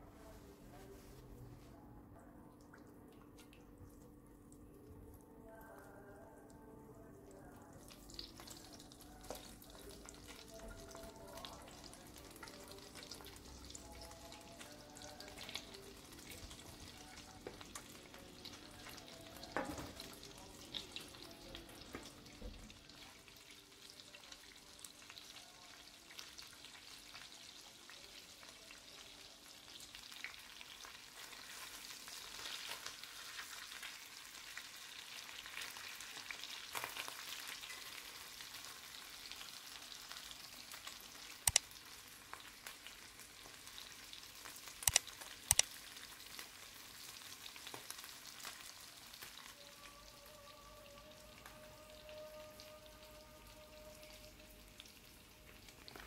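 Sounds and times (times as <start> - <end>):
chicken sizzling in a pan: 7.9 - 56.0.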